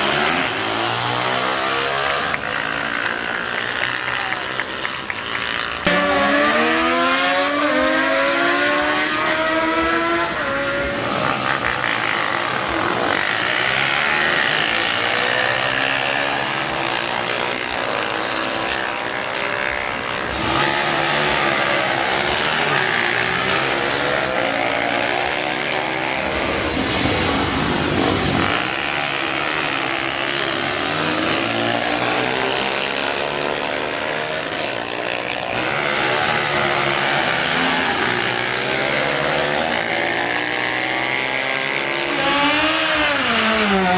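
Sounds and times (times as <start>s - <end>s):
racing engine accelerating: 0.0s - 43.9s.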